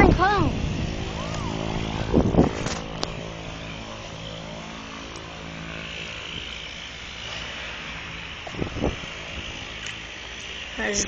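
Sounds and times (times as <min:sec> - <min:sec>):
airplane engines droning: 0:00.0 - 0:11.0.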